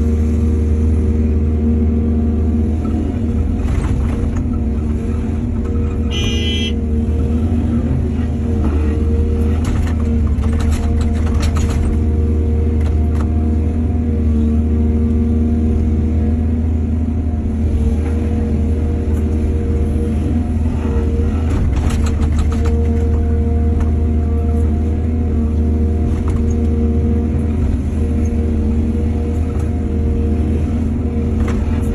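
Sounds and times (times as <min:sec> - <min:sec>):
diesel excavator engine running: 0:00.0 - 0:31.9.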